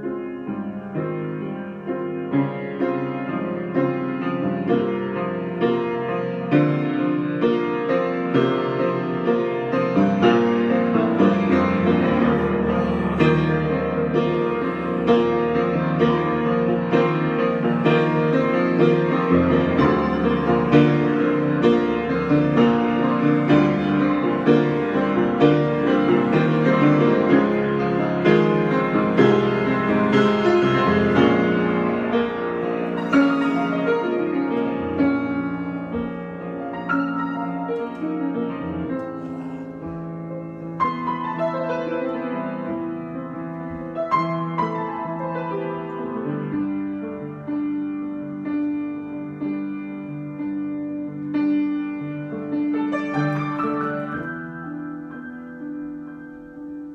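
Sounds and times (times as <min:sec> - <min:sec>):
solo piano improvisation: 0:00.0 - 0:56.9.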